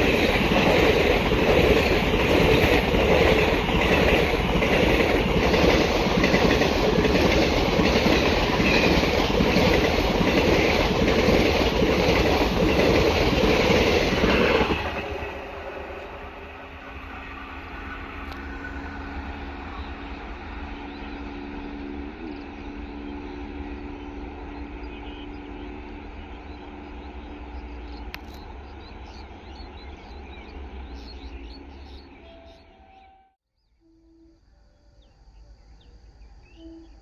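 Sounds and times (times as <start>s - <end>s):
train rumbling away: 0.0s - 33.4s.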